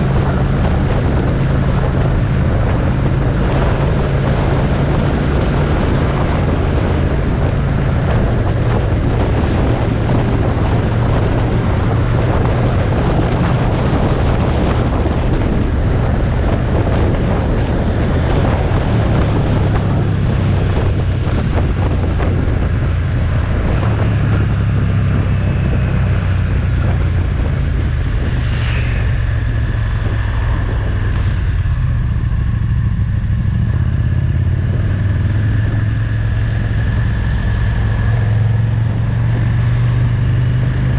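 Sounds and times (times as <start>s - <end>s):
motorcycle engine running: 0.0s - 40.9s
wind rush over microphone: 0.0s - 40.9s.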